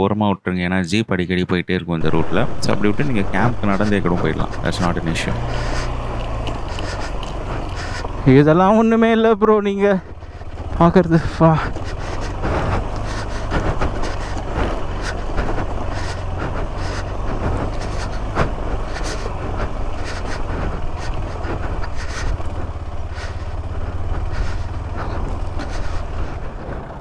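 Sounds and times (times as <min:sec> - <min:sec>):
vehicle engine running under load: 0:02.0 - 0:27.0.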